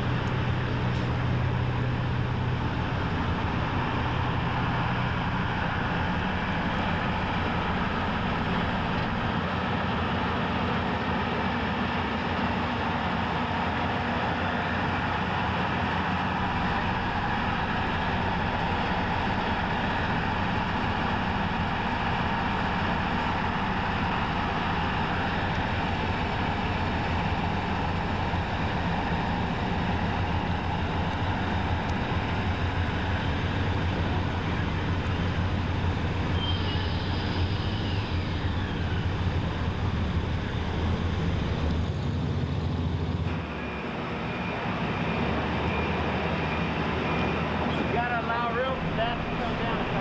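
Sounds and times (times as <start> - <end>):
heavy vehicle engine running: 0.0 - 50.0.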